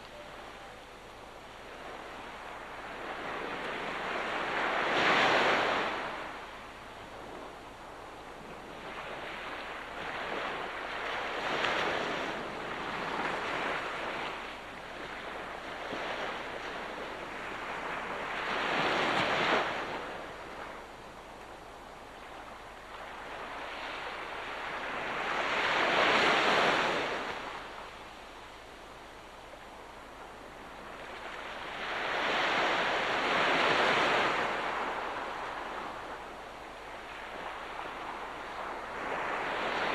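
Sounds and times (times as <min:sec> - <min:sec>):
ocean waves breaking on shore: 0:01.5 - 0:39.9.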